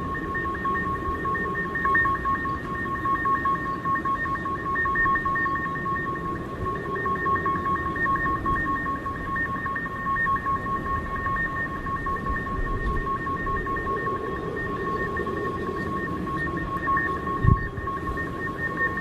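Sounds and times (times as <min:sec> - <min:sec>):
pulsing two-note hum: 0:00.0 - 0:19.0.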